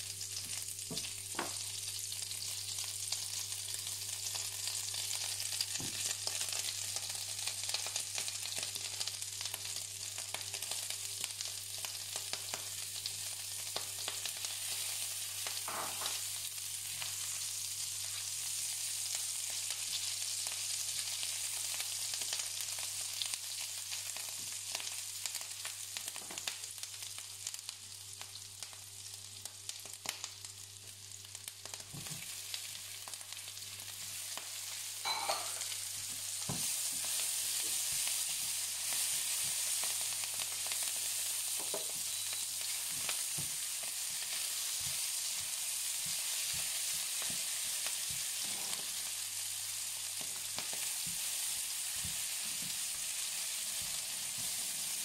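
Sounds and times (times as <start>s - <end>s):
onion sizzling in a pan: 0.0s - 55.0s.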